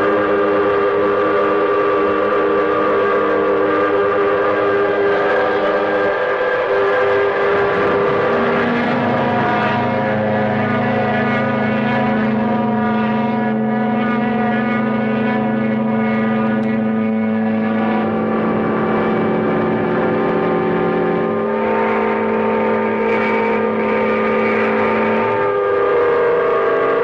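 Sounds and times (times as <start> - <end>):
ship horns and steam whistles: 0.0 - 27.0.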